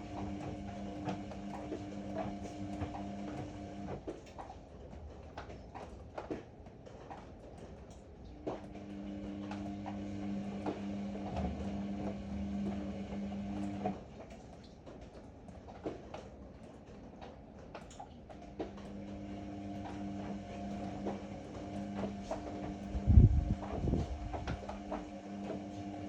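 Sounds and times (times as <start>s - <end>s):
washing machine motor hum: 0.0s - 6.4s, 7.1s - 26.0s.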